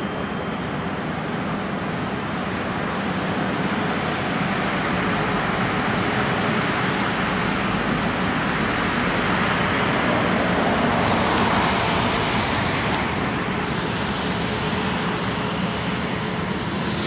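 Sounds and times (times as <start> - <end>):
jet engines running at low thrust: 0.0 - 17.0.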